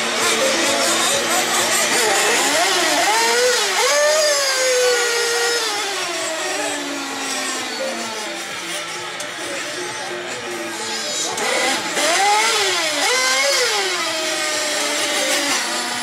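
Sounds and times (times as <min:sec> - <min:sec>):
small nitro engine revving: 0:00.0 - 0:16.0.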